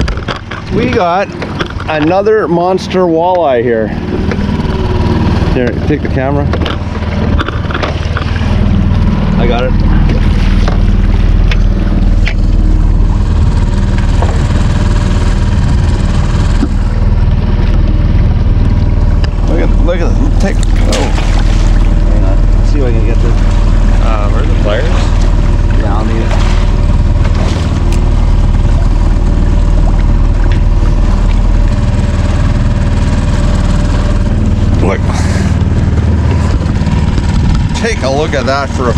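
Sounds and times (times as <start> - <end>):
boat engine low hum: 0.0 - 38.9
outboard motor rumbling: 0.0 - 38.9.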